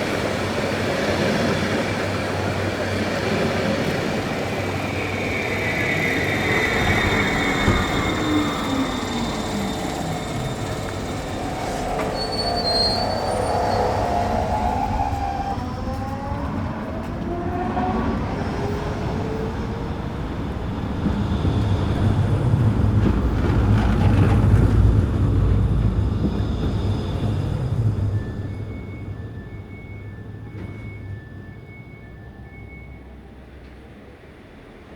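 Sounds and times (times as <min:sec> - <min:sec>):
heavy train rumble: 0:00.0 - 0:34.9
train wheels squealing: 0:00.0 - 0:34.9.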